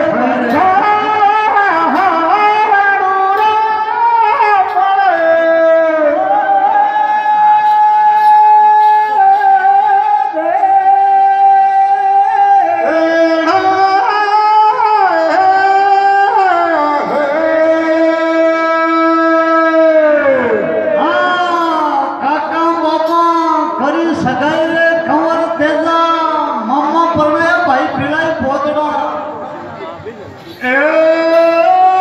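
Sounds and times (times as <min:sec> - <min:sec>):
man singing into a microphone: 0:00.0 - 0:29.8, 0:30.4 - 0:32.0.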